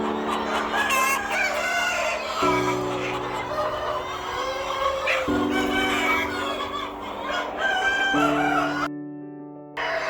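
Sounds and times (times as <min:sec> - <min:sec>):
chickens clucking: 0:00.0 - 0:08.9, 0:09.8 - 0:10.0.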